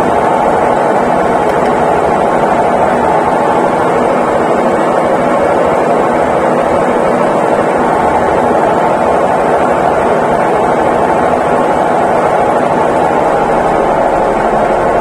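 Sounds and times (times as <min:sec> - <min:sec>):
washing machine whirring hum: 0:00.0 - 0:15.0.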